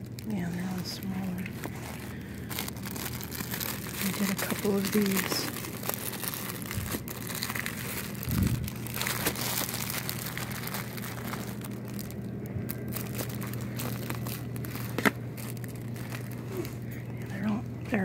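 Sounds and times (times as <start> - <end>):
plastic packs crinkling: 0.0 - 17.8
steady low hum: 0.0 - 18.0.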